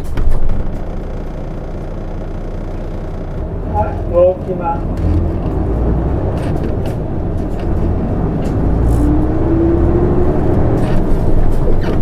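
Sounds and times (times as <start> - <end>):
bus diesel engine accelerating: 0.0 - 12.0.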